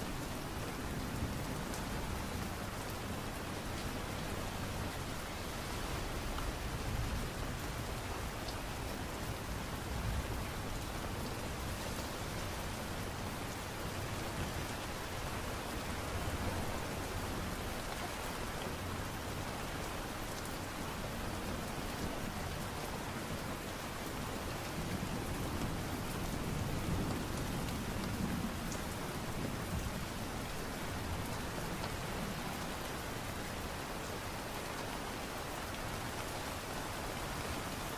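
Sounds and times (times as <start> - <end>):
light rain hiss: 0.0 - 37.9.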